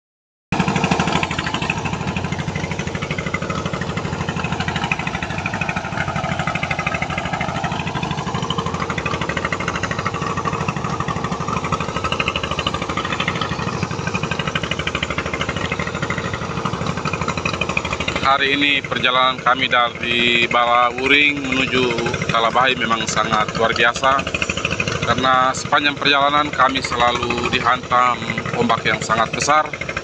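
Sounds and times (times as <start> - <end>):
diesel boat engine knocking: 0.5 - 30.0.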